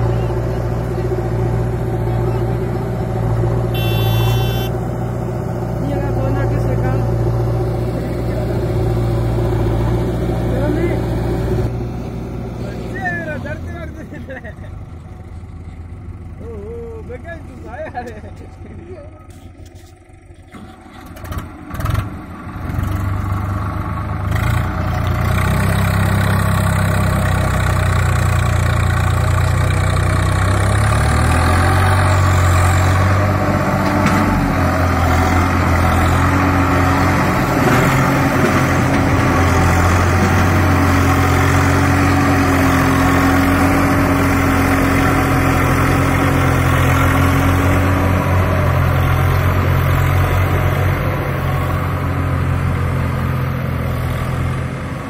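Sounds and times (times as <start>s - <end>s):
diesel tractor engine working hard: 0.0s - 55.0s.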